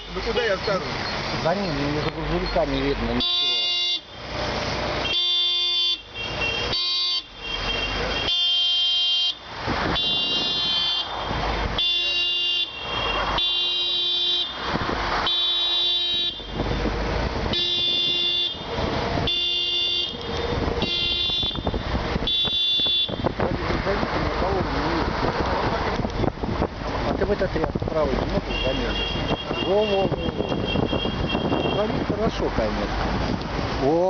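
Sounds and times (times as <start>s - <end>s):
car horns honking: 0.0s - 23.5s, 28.2s - 32.4s
traffic noise: 0.0s - 34.0s.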